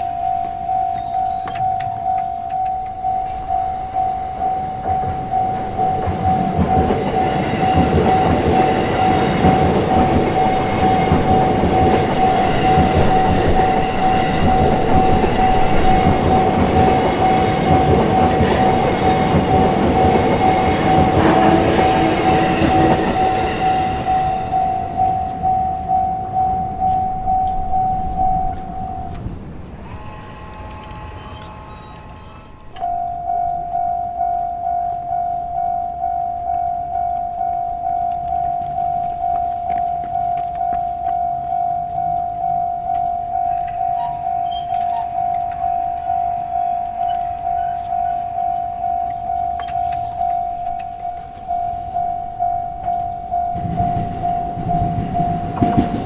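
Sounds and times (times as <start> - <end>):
level crossing alarm dinging: 0.0 - 56.0
train wheels and motors rumbling: 0.0 - 56.0.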